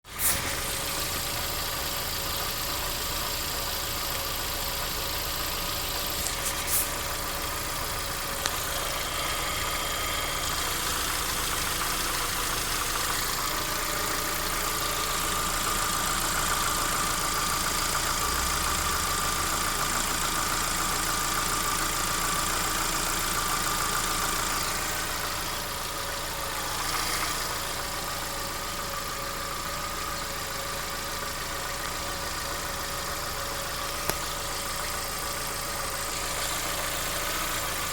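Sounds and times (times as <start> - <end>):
car engine idling with knock: 0.1 - 37.9.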